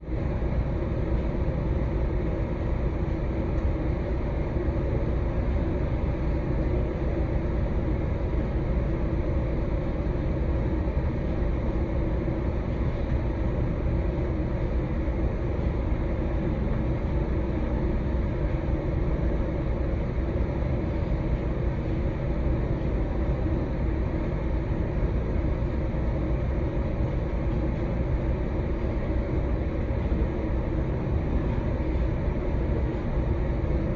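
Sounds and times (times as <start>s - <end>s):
deep white noise hiss: 0.0s - 33.9s.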